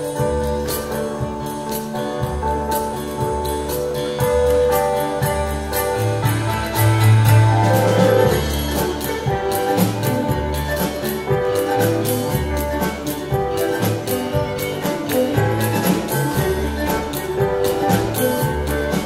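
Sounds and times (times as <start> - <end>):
dance band playing upbeat tune: 0.0 - 19.0
drum kit beat: 0.0 - 19.0.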